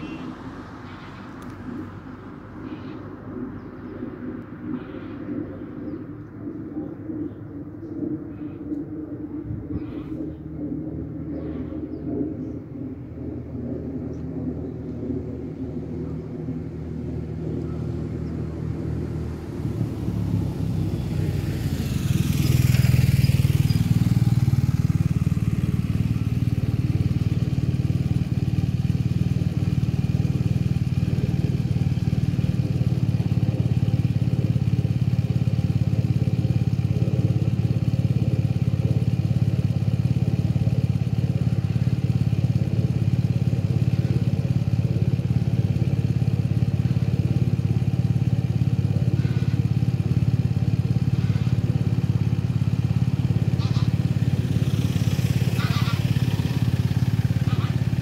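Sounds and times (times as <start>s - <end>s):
motorcycle engine passing and idling: 0.0s - 58.0s.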